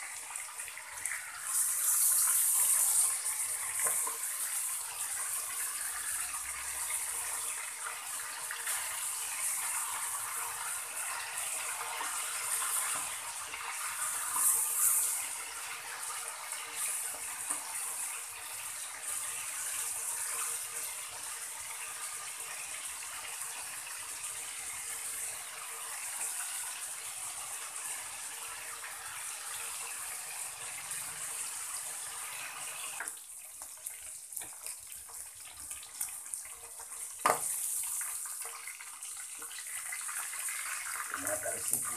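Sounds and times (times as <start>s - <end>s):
meat sizzling in hot oil: 0.0s - 41.9s.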